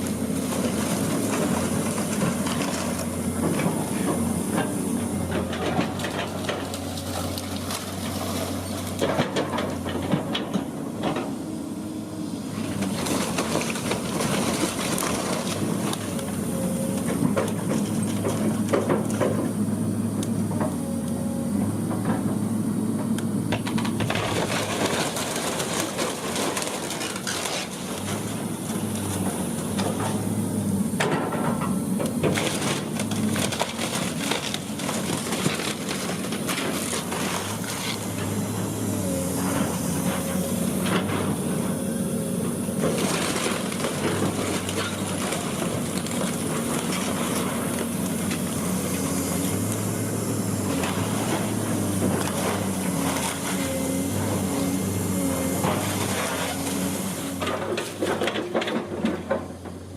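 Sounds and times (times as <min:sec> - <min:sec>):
wood and debris crunching: 0:00.0 - 0:11.3, 0:12.4 - 0:19.6, 0:23.5 - 0:59.9
demolition machinery engine: 0:00.0 - 0:59.9.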